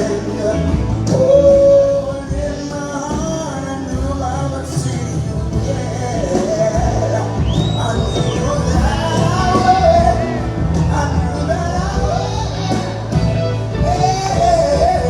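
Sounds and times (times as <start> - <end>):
live band playing soft rock: 0.0 - 15.0
wordless lead vocal: 0.0 - 15.0.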